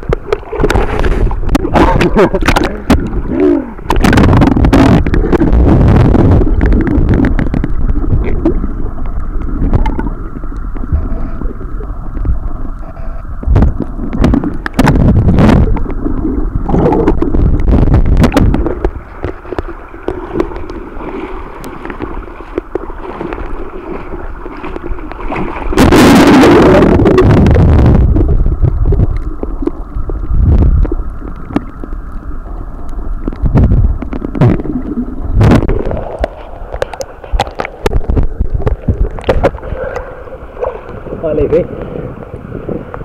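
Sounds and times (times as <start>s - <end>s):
underwater churning rumble: 0.0s - 43.0s.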